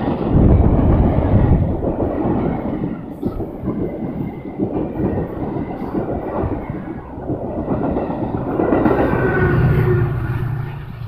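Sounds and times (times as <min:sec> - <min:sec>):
passenger train rushing past: 0:00.0 - 0:11.0
wheels clattering over rails: 0:00.0 - 0:11.0.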